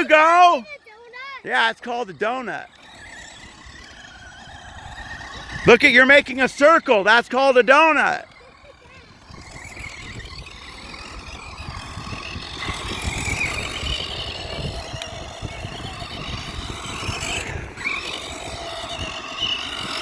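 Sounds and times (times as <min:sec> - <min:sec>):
electric toy car motor whining: 0:00.0 - 0:20.0.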